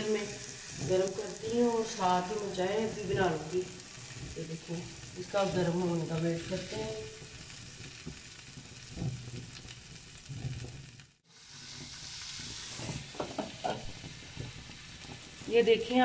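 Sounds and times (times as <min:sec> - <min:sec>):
butter sizzling on hot pan: 0:00.0 - 0:16.0
omelette sizzling in frying pan: 0:00.0 - 0:16.0.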